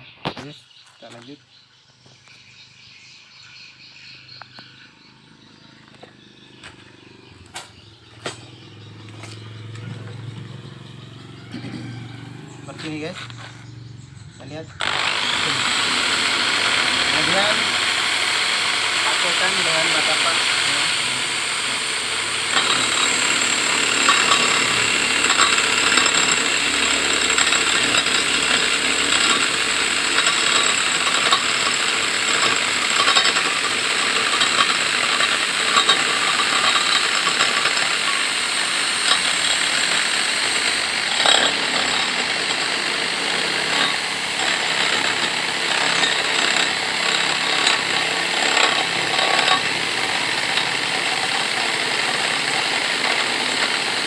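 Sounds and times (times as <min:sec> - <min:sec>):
drill motor whine: 0:04.4 - 0:54.0.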